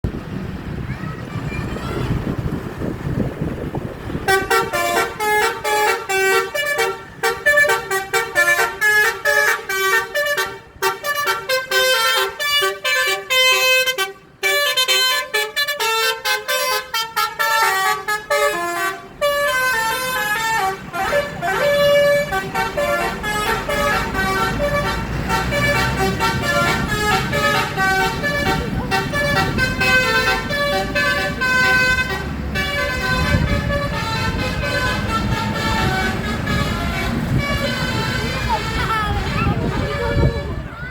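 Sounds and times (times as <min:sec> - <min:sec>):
multi-tone musical bus horn: 0:04.1 - 0:40.9.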